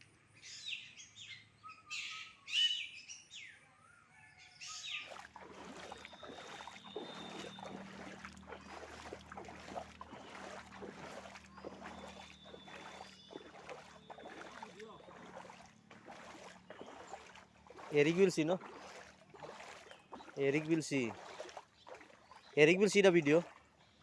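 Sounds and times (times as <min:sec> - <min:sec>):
birds chirping: 0:00.3 - 0:24.0
water sloshing and splashing: 0:04.7 - 0:24.0.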